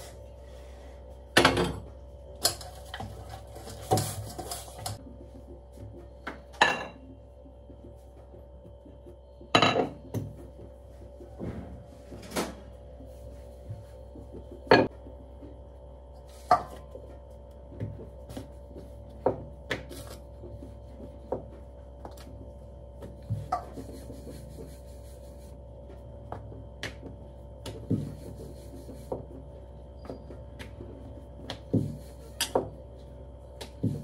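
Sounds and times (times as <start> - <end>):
steady low hum: 0.0 - 34.0
rolling pin on a board: 2.7 - 11.8, 13.0 - 34.0.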